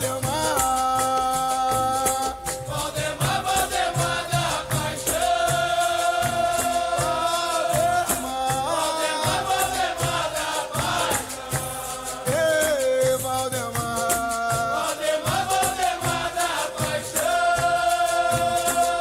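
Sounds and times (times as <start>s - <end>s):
berimbau: 0.0s - 19.0s
steady low drum beat: 0.0s - 19.0s.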